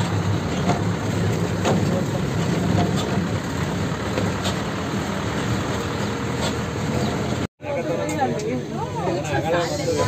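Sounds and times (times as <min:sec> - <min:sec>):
bus engine running: 0:00.0 - 0:10.0.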